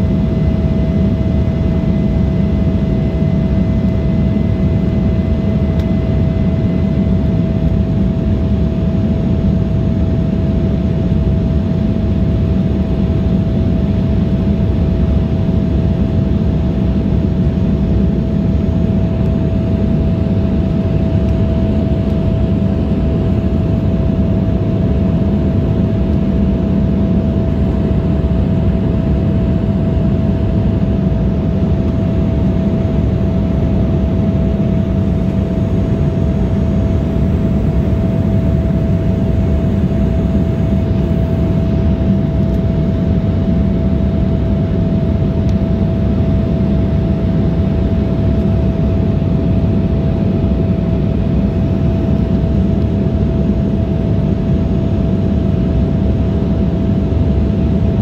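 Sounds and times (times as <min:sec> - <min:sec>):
jet engines droning: 0:00.0 - 0:58.0
steady hum: 0:00.0 - 0:58.0.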